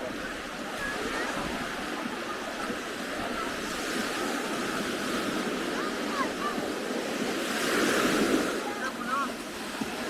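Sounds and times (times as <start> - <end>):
ocean waves breaking on beach: 0.0 - 10.0.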